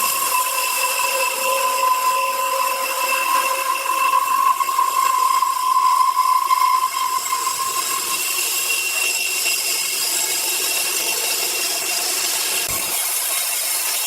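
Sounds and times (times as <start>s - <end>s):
power saw cutting log: 0.0s - 14.0s.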